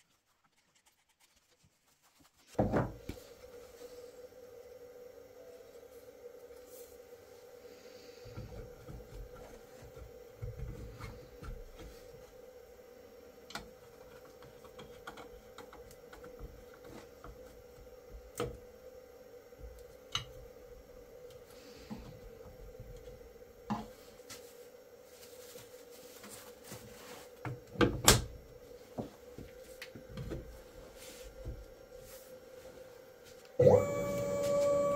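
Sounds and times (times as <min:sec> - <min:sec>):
steady low hum: 0:02.4 - 0:34.9.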